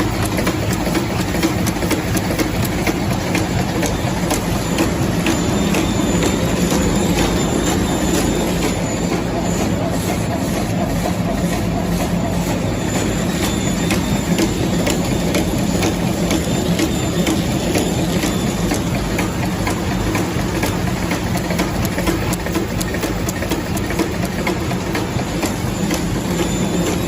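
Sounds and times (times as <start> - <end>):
packing machine humming: 0.0 - 27.0
regular mechanical clicking: 0.0 - 27.0.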